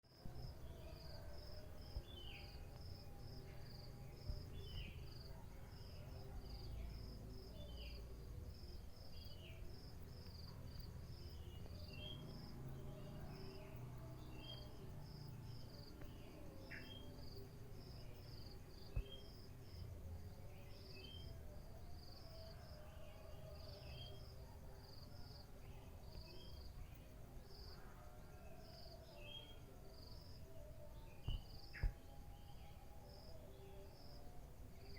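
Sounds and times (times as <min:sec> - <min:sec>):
crickets chirping: 0:00.1 - 0:34.9.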